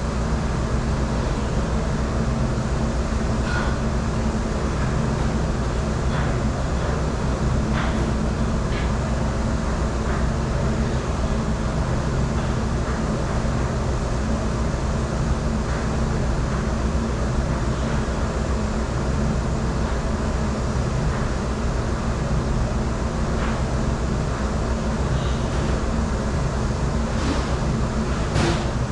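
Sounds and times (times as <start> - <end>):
dishwashing machinery humming: 0.0 - 28.9.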